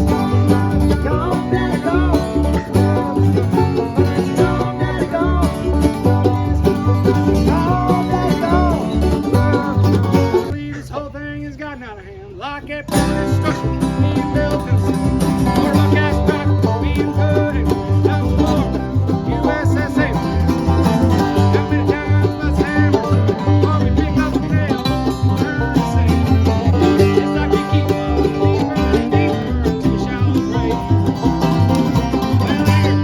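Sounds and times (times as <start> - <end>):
banjo: 0.0 - 10.6, 12.9 - 33.0
bass line: 0.0 - 33.0
guitar: 0.0 - 33.0.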